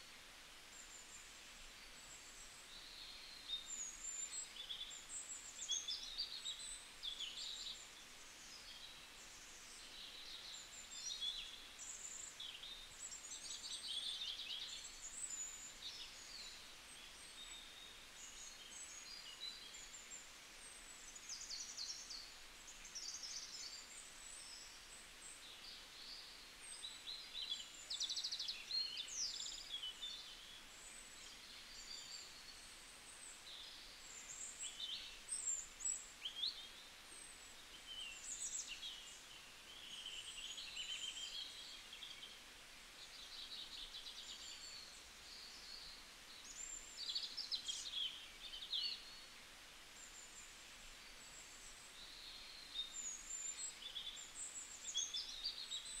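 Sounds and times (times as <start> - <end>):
faint steady hiss: 0.0 - 56.0
songbirds singing and chirping: 0.0 - 56.0.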